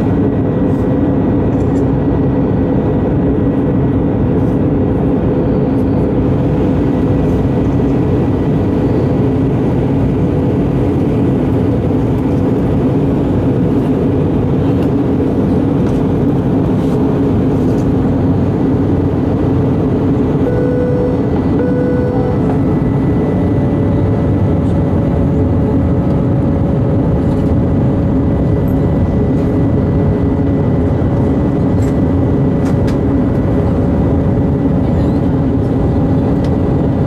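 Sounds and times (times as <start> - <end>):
airliner cabin engine noise: 0.0 - 37.0
low hum: 0.0 - 37.0.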